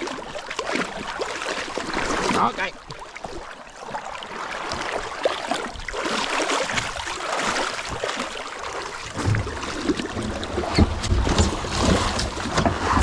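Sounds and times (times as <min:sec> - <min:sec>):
creek water rushing and splashing: 0:00.0 - 0:13.0.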